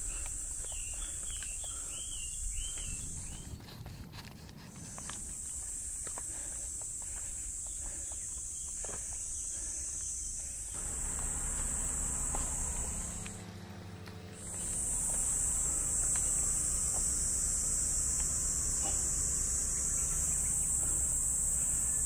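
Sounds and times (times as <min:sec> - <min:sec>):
insects trilling: 0:00.0 - 0:13.6, 0:14.2 - 0:22.0.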